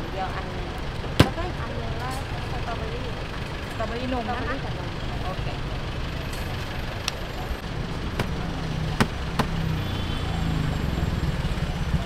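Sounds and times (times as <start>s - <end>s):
street traffic rumble: 0.0s - 12.0s
vehicle engine idling: 0.0s - 12.0s.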